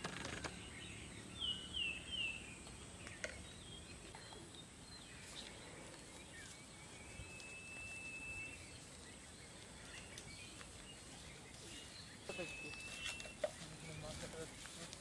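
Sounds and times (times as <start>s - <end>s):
bird chirps: 0.0s - 14.9s.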